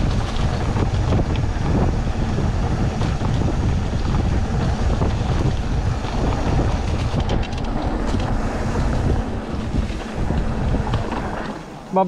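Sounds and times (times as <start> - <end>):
bike clicks and rattles: 0.0 - 12.0
wind buffeting microphone: 0.0 - 12.0.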